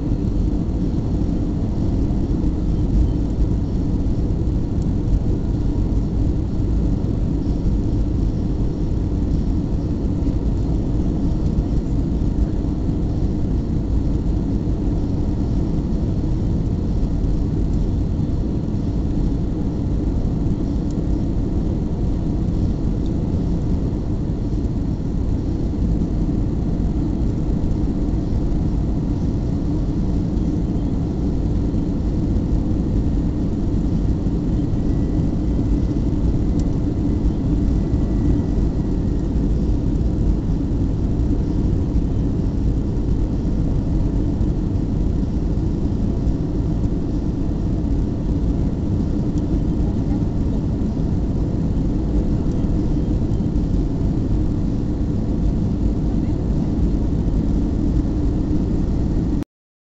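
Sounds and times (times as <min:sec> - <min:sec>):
aircraft engines rumbling: 0:00.0 - 0:59.4
faint steady hum: 0:00.0 - 0:59.4.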